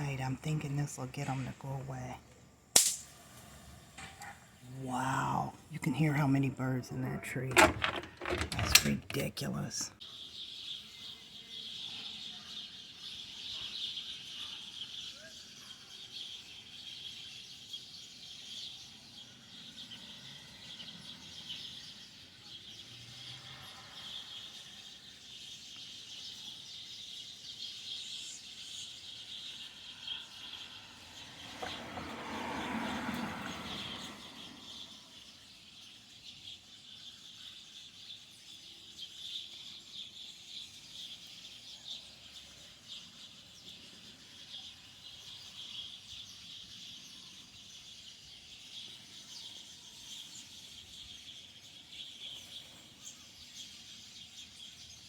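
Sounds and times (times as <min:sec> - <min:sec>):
flock of birds chattering: 0:00.0 - 0:55.0.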